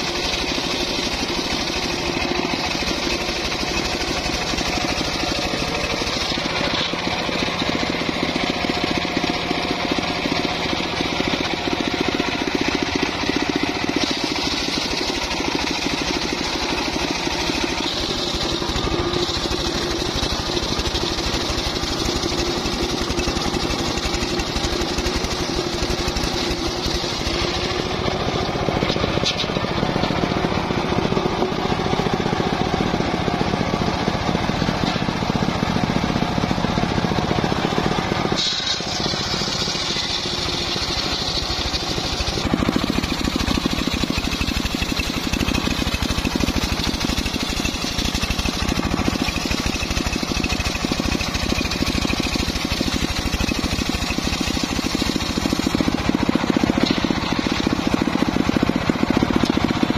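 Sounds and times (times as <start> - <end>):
saw blade cutting wood: 0.0 - 32.4, 34.6 - 59.9
engine running: 0.0 - 59.9.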